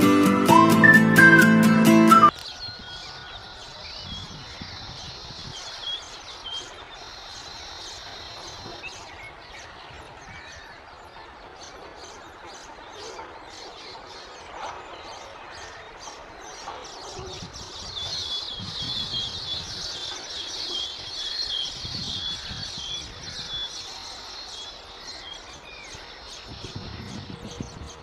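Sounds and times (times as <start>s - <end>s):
weaver birds twittering chorus: 2.3s - 28.0s.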